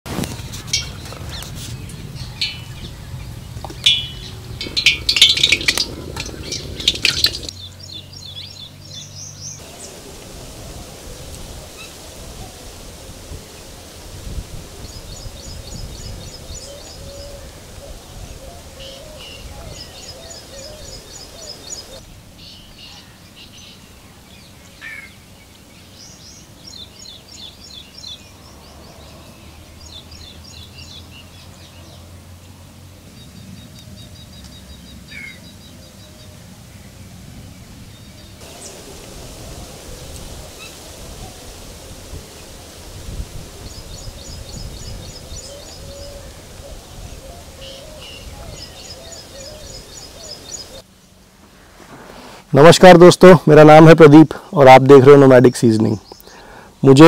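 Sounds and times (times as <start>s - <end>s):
birds singing trills: 0.3s - 13.8s, 14.5s - 51.3s, 55.6s - 57.0s.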